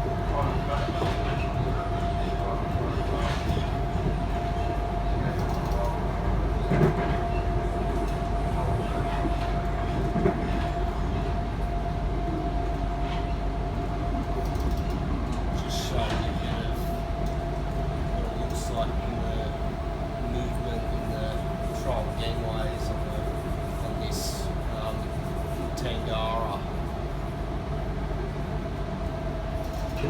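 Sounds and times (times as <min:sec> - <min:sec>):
electric train rumble and hum: 0:00.0 - 0:30.0.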